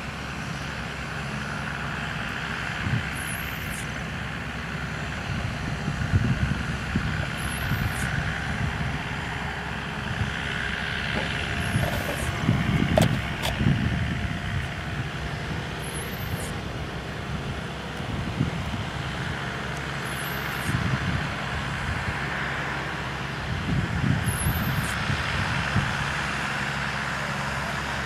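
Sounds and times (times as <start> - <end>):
tow tractor diesel engine rumbling: 0.0 - 28.0.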